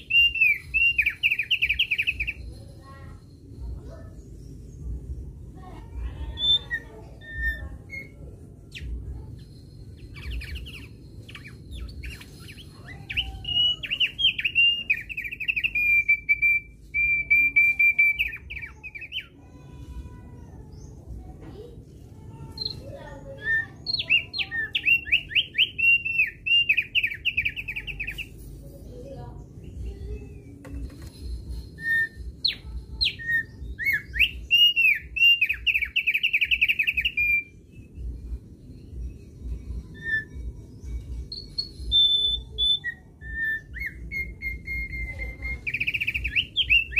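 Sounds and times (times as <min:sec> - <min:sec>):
bird rapid high chirping: 0:00.0 - 0:21.3, 0:22.0 - 0:46.9.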